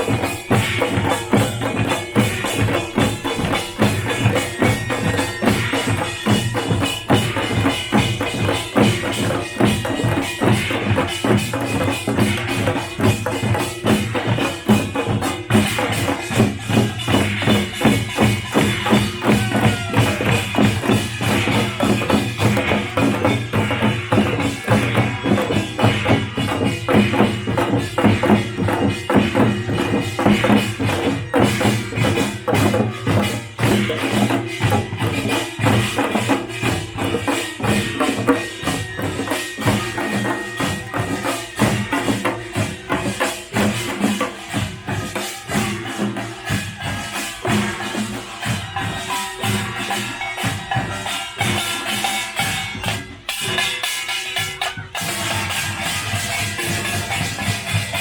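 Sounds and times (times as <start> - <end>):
percussion band drums and gongs: 0.0 - 58.0.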